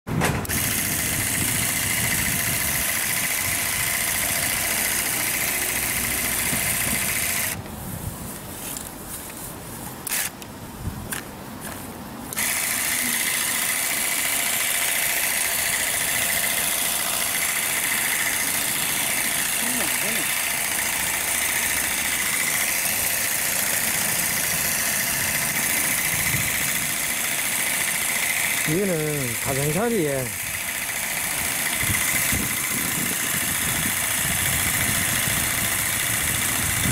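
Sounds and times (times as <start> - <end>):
cordless grass shear whine: 0.1 - 10.5, 11.1 - 36.9.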